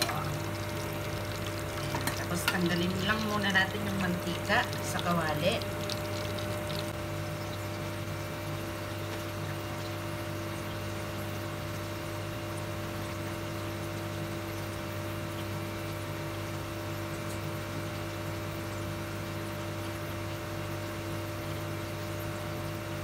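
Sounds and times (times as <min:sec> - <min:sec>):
cooktop electric hum: 0:00.0 - 0:23.0
hot oil frying: 0:00.0 - 0:23.0.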